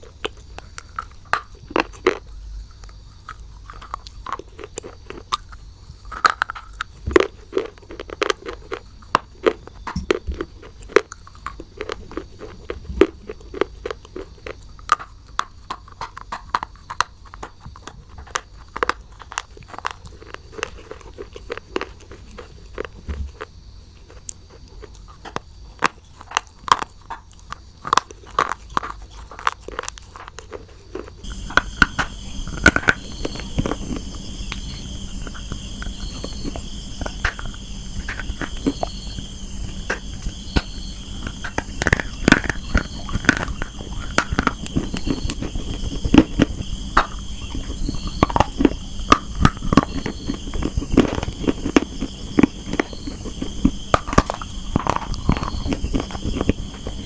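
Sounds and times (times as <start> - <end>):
background hum with high whine: 0.0 - 57.0
chewing brittle clay crunches: 0.0 - 57.0.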